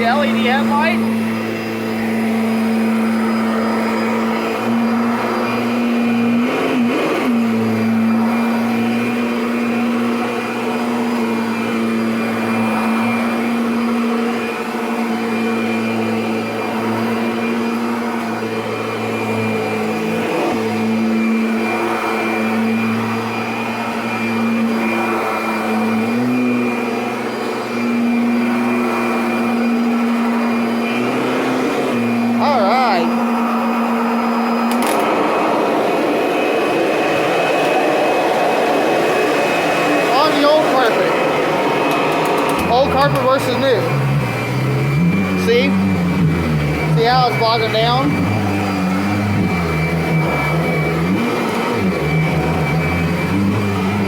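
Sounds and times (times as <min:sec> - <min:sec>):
vacuum cleaner motor hum: 0:00.0 - 0:54.0.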